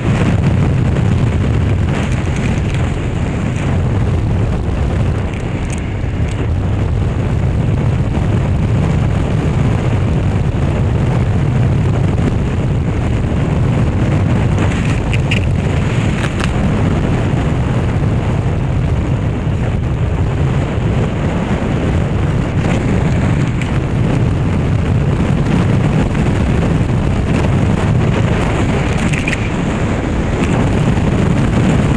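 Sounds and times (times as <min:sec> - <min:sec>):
motorcycle running: 0:00.0 - 0:31.9
wind rumble on microphone: 0:00.0 - 0:31.9.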